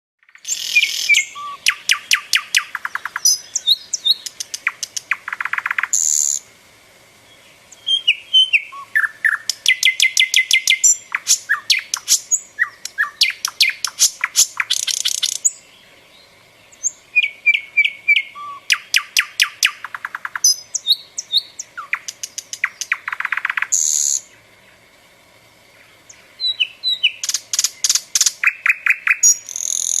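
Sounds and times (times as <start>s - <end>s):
nightingale singing: 0.2s - 6.5s, 7.2s - 24.8s, 25.5s - 30.0s.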